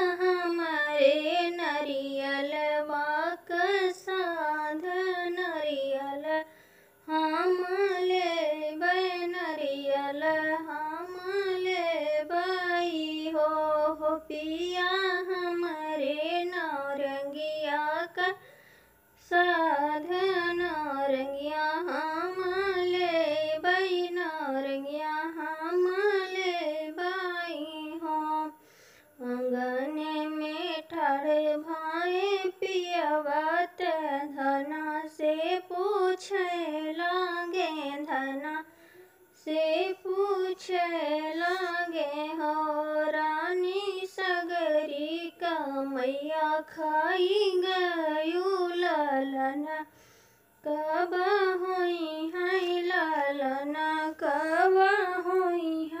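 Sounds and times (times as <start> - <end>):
woman singing unaccompanied: 0.0 - 56.0.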